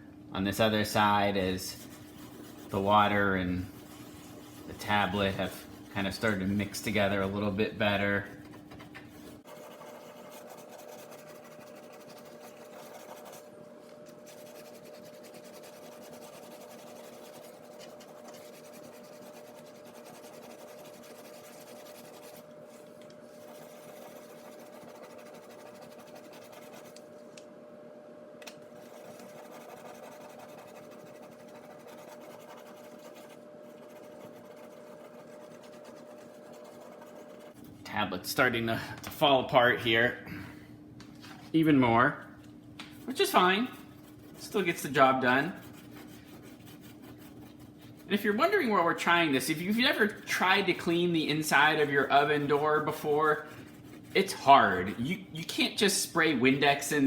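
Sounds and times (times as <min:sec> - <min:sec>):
tablet scrubbing on glass: 0:01.1 - 0:27.1, 0:28.7 - 0:37.6, 0:43.0 - 0:55.9.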